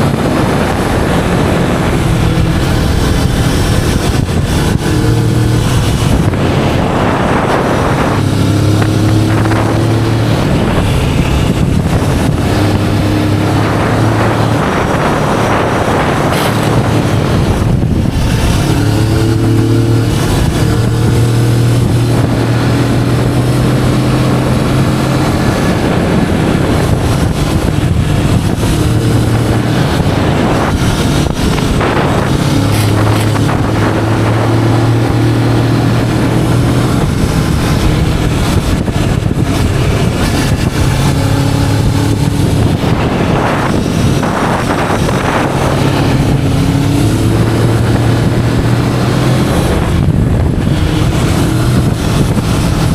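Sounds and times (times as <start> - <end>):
motorcycle engine running: 0.0 - 52.9
wind buffeting microphone: 0.0 - 52.9.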